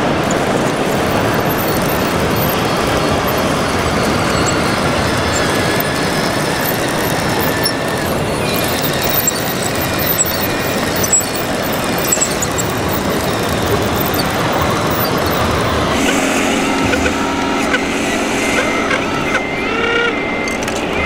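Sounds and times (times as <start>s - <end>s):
small electric motors whining: 0.0s - 21.0s
steady mechanical noise: 0.0s - 21.0s.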